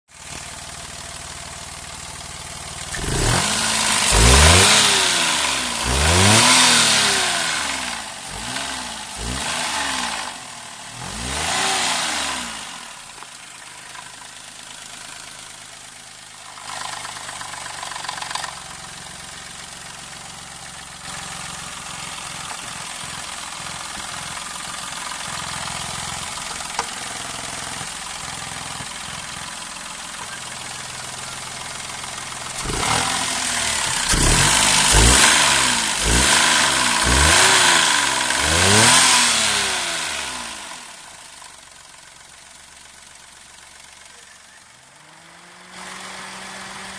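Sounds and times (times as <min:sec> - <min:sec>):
car engine revving and idling: 0:00.2 - 0:46.9.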